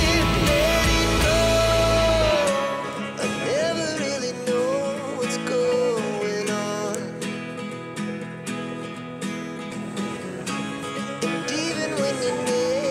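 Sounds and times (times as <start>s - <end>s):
strummed acoustic guitar music: 0.0s - 12.9s.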